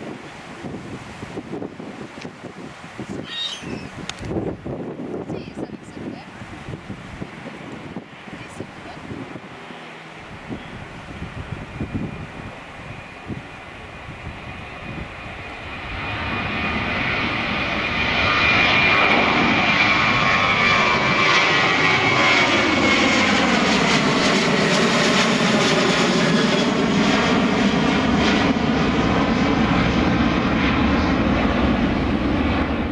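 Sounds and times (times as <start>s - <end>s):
jet airliner climbing overhead: 0.0s - 32.9s.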